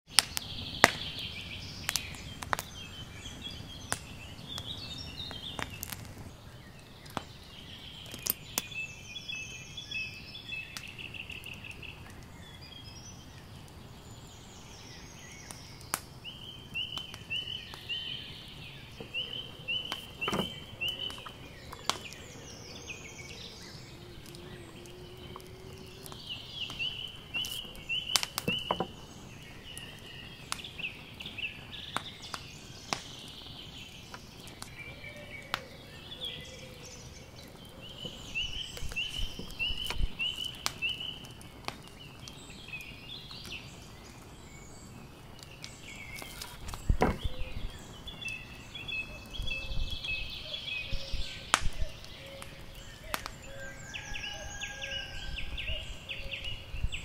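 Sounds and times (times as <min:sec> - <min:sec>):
songbirds singing: 0:00.1 - 0:57.0.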